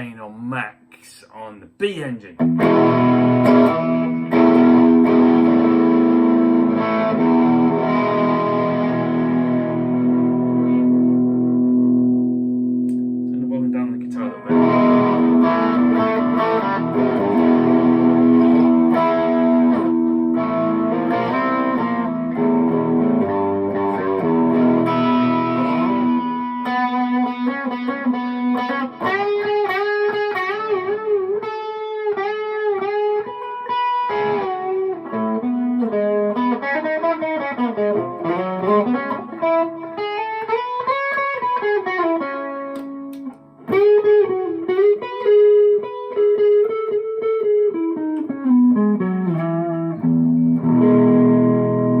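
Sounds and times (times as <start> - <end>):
distorted electric guitar: 2.3 - 52.0.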